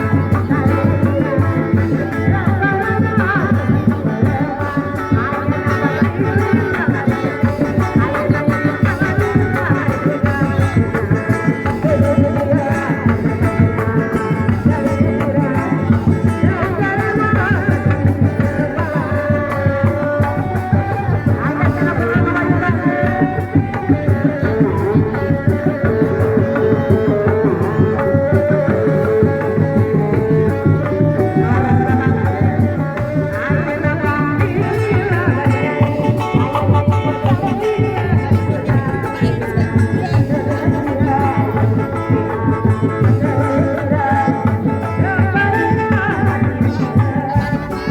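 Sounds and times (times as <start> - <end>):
rapid hand-drum strokes: 0.0 - 47.9.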